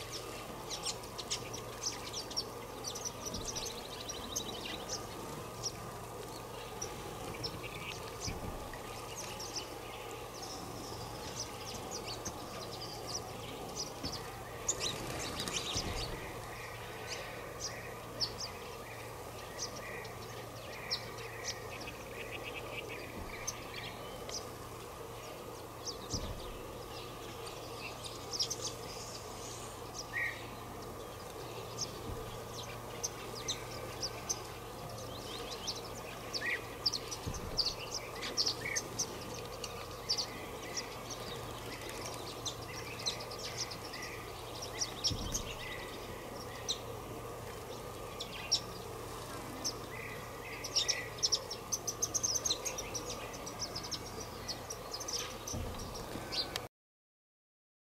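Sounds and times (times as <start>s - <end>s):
sparrows chirping: 0.0s - 56.6s
steady low hiss: 0.0s - 56.7s.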